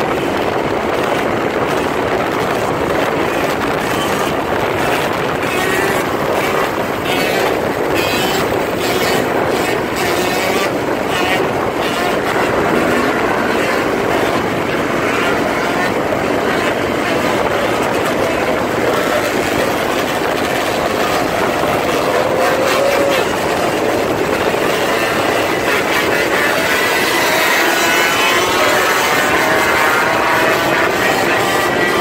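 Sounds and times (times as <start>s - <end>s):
dirt bike engines running: 0.0s - 32.0s
wind noise on microphone: 0.0s - 32.0s.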